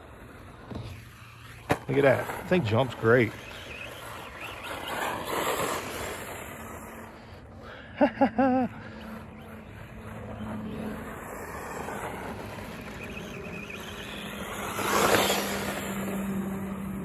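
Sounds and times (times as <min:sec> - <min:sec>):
electric motor whir: 0:00.0 - 0:07.6, 0:08.8 - 0:17.0
tyres on loose dirt: 0:00.0 - 0:17.0.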